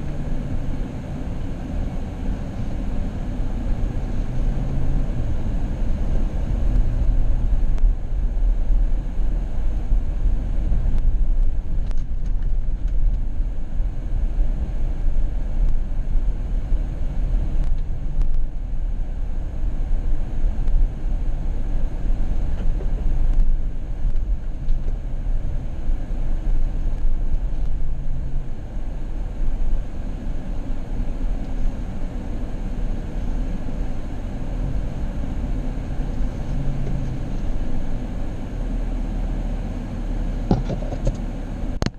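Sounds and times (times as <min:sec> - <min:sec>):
car engine rumbling: 0:00.0 - 0:41.9.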